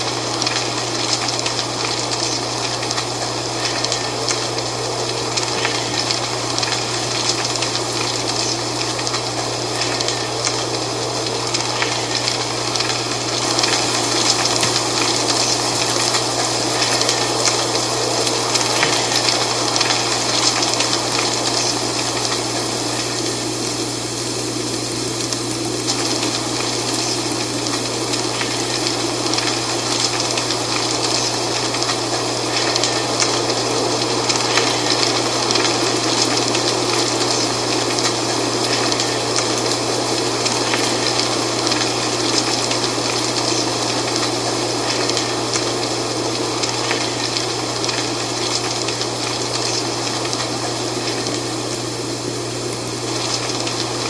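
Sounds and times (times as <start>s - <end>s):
dry leaves rustling in wind: 0.0s - 54.0s.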